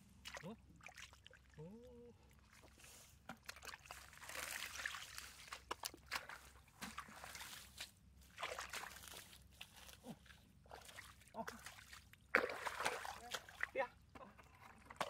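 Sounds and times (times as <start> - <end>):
feet sloshing through muddy water: 0.0 - 15.0.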